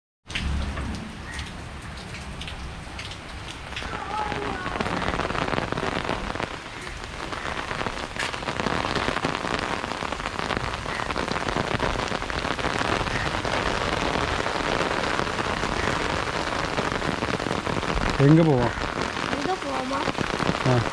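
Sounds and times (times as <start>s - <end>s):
heavy rain falling: 0.3s - 20.9s.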